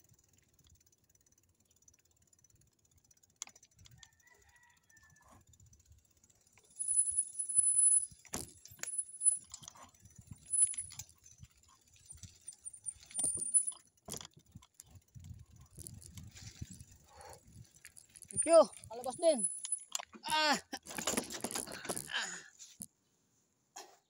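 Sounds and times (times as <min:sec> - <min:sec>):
bicycle rattling over rough ground: 0:00.0 - 0:22.9.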